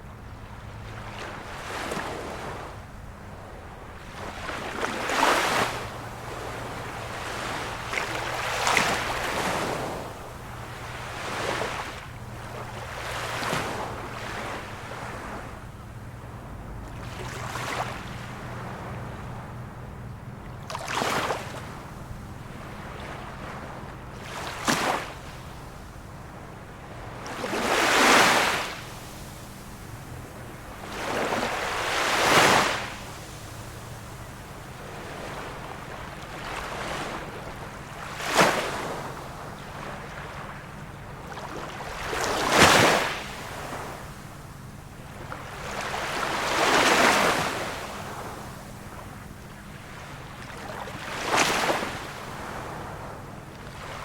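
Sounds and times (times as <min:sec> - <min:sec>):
small waves breaking: 0:00.0 - 0:54.0.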